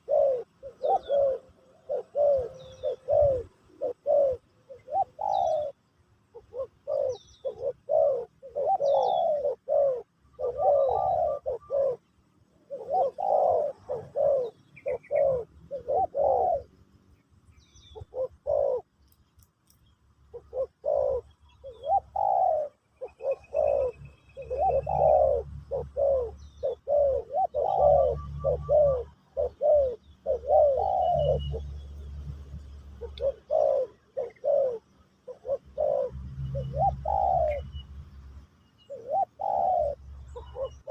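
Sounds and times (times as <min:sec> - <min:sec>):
dove cooing: 0:00.0 - 0:17.0, 0:17.6 - 0:19.0, 0:20.2 - 0:37.9, 0:38.8 - 0:40.9
small birds chirping: 0:00.0 - 0:40.9.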